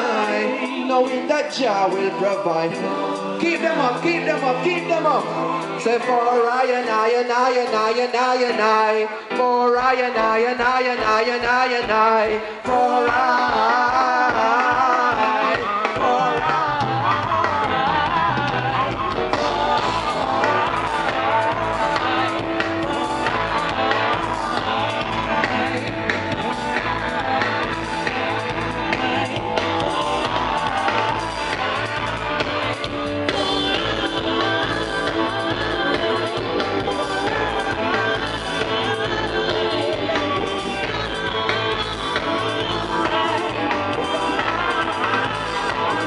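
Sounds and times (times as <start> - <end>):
live reggae band playing: 0.0 - 46.0.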